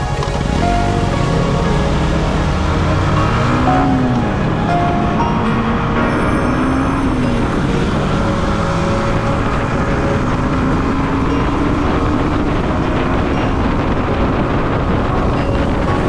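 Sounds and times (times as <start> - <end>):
motorcycle running at speed: 0.0 - 16.0
wind rushing over microphone: 0.0 - 16.0.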